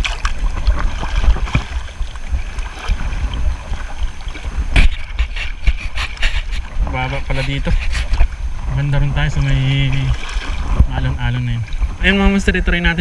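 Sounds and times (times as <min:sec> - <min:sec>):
shallow water sloshing: 0:00.0 - 0:12.4
wind buffeting microphone: 0:00.0 - 0:13.0.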